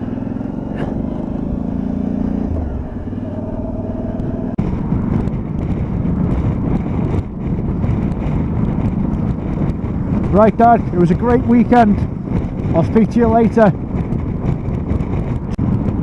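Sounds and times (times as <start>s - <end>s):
motorcycle engine running: 0.0s - 16.0s
wind rush: 0.0s - 16.0s.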